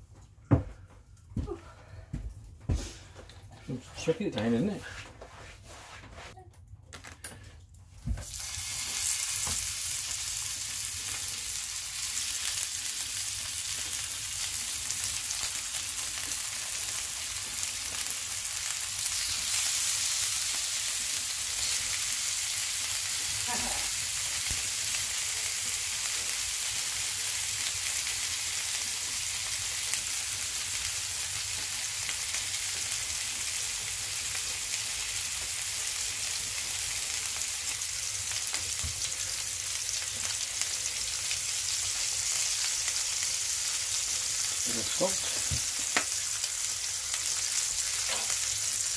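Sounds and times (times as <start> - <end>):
meat sizzling in hot oil: 8.0 - 48.9.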